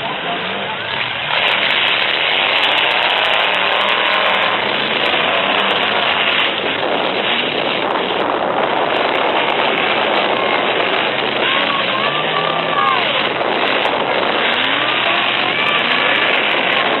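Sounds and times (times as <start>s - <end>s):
truck engines revving: 0.0s - 17.0s.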